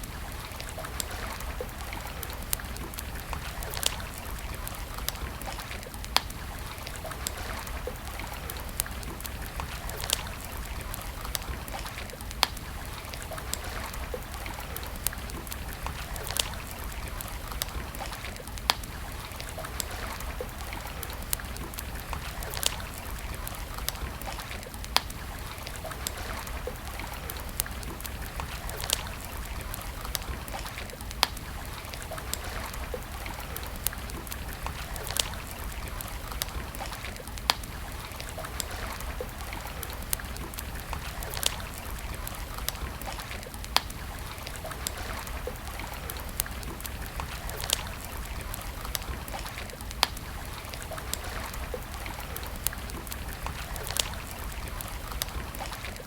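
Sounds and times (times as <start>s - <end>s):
stream water flowing: 0.0s - 56.0s
wood fire crackling and popping: 0.0s - 56.0s.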